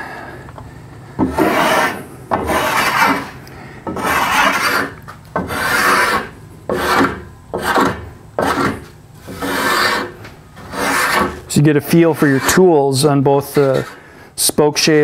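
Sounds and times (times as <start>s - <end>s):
block plane shaving wood: 1.2s - 12.8s, 13.4s - 14.0s.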